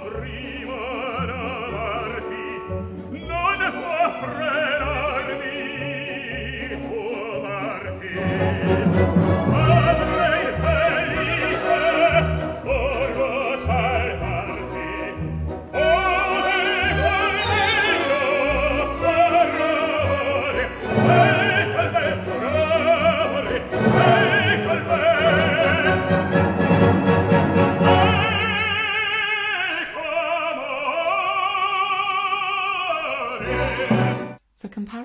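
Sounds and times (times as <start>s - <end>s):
orchestral accompaniment: 0.0s - 30.2s, 33.0s - 34.4s
operatic tenor singing: 0.0s - 34.4s.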